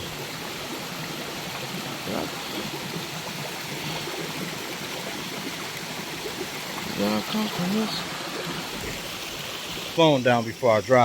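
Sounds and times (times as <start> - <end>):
stream rushing over rocks: 0.0 - 10.5.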